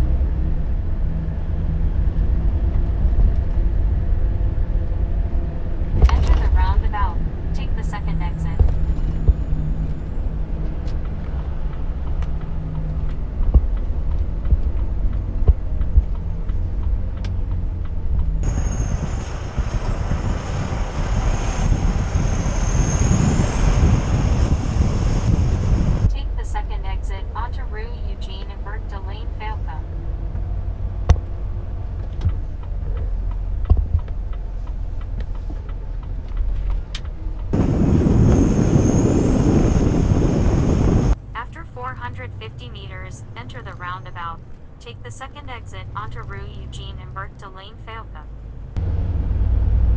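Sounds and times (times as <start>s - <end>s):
road rumble: 0.0s - 49.9s
truck diesel engine: 0.0s - 49.9s.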